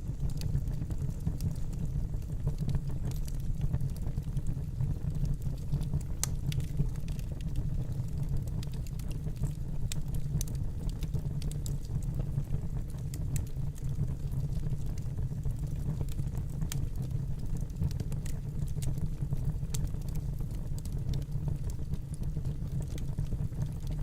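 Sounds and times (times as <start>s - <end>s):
fire crackling in fireplace: 0.0s - 24.0s.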